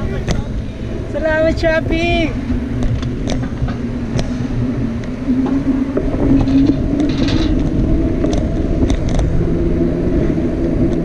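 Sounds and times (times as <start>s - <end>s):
road noise: 0.0s - 11.0s
steady low hum: 0.0s - 11.0s
wind on microphone: 0.0s - 11.0s.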